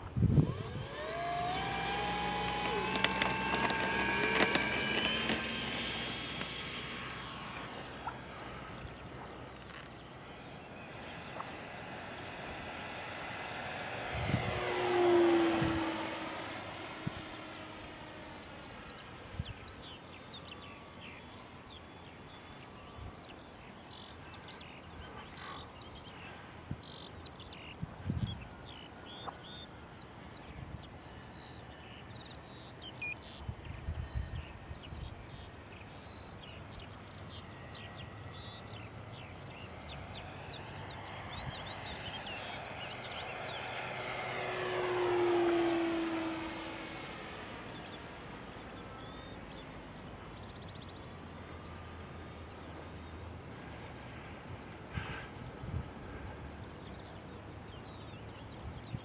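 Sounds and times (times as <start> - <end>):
model plane propeller whining: 0.0 - 27.8, 28.5 - 59.0.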